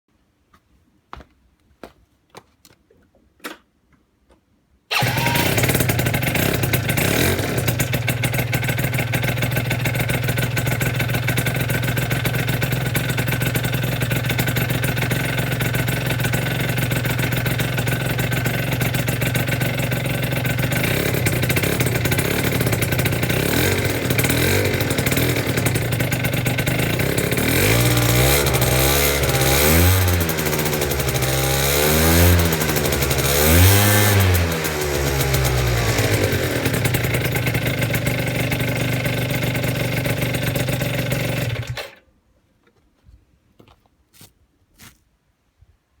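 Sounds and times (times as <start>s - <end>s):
scooter engine idling: 4.9s - 42.0s.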